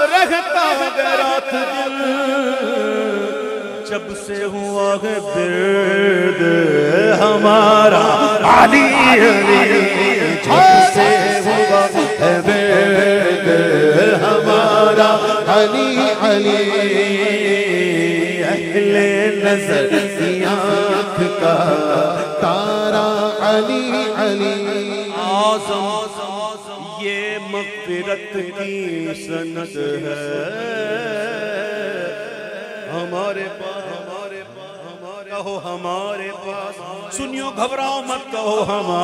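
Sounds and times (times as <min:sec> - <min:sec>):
man singing into a microphone: 0:00.0 - 0:39.0.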